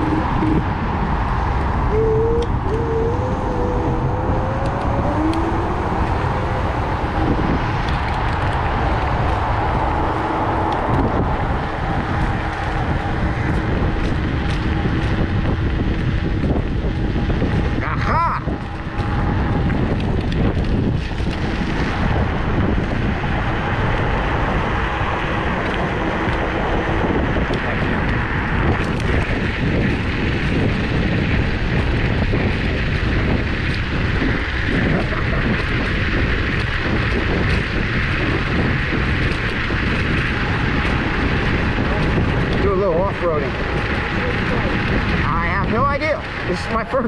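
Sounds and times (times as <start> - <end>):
electric scooter rumble: 0.0 - 47.0
wind on microphone: 0.0 - 47.0.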